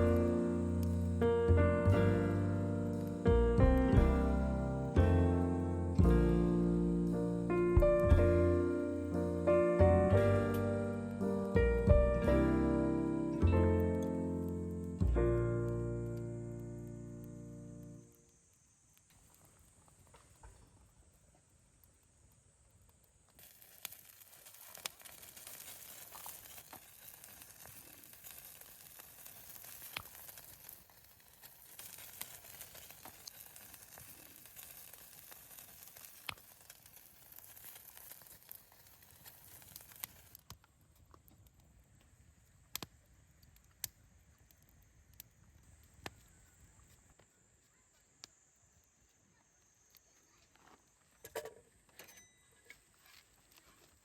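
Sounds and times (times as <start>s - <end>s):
campfire crackling and popping: 0.0s - 48.9s
soft fire hiss: 0.0s - 54.0s.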